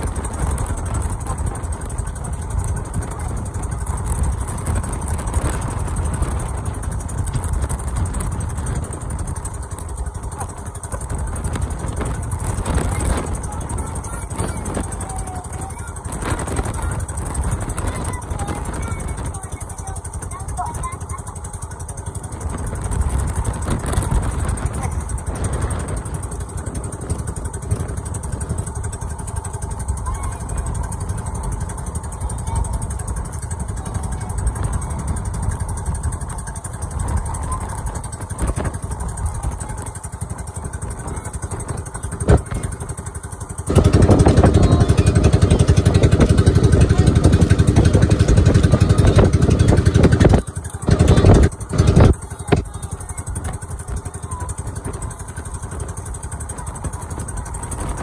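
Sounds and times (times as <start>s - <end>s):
boat engine running: 0.0s - 58.0s
wind on microphone: 0.0s - 58.0s.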